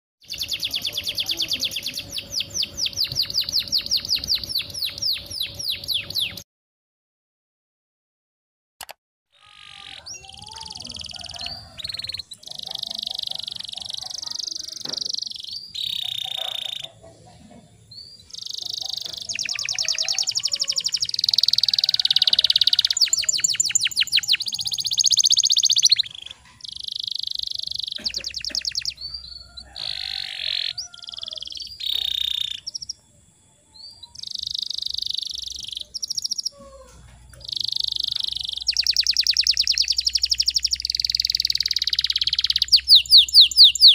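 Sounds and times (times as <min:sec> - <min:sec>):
canary singing chirps and trills: 0:00.2 - 0:06.4, 0:09.4 - 0:43.9.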